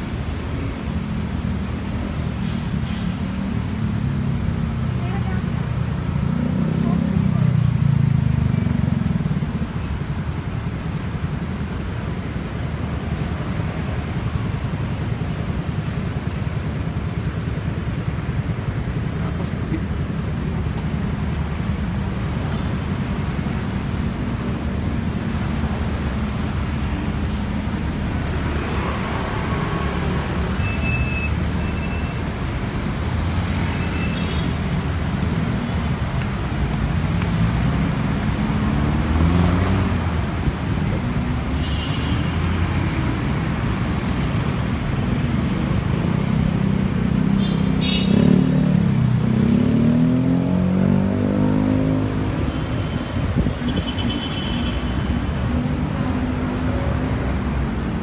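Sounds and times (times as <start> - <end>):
vehicle engines running: 0.0 - 53.8.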